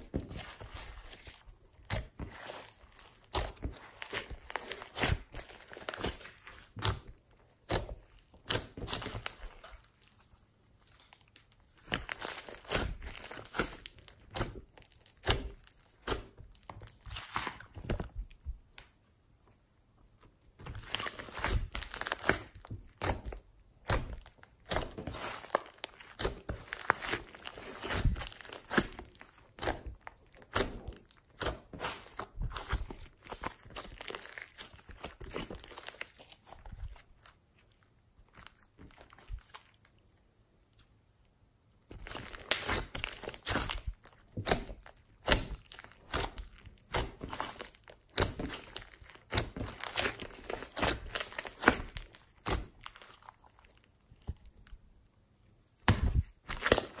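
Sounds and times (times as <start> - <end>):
slime crackling and popping: 0.0 - 10.2, 10.8 - 18.8, 20.6 - 37.3, 41.8 - 54.8, 55.8 - 57.0.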